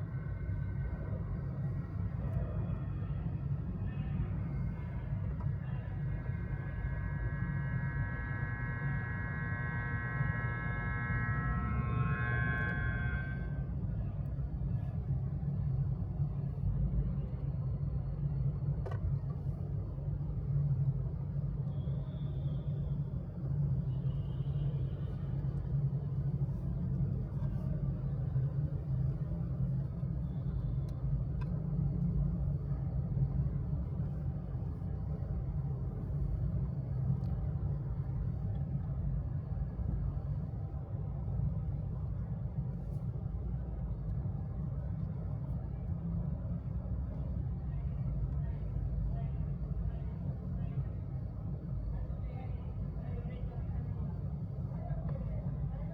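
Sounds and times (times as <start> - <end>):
low engine rumble: 0.0 - 55.9.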